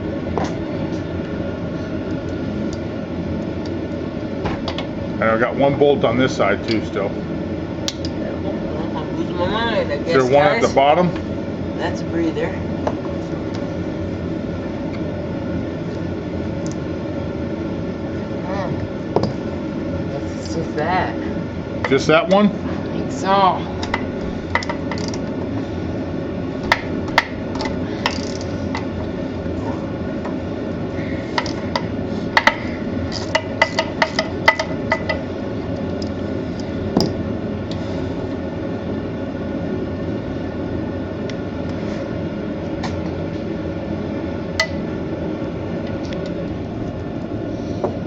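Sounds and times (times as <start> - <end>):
steady background noise: 0.0 - 48.0.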